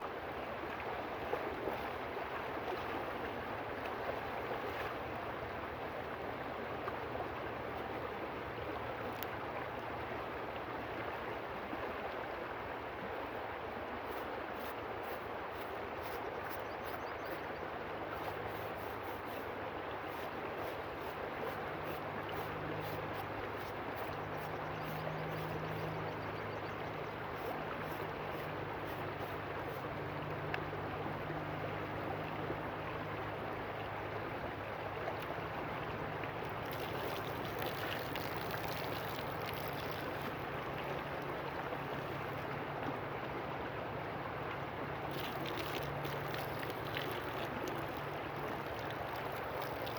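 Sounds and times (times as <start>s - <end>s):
river water rushing and gurgling: 0.0s - 49.9s.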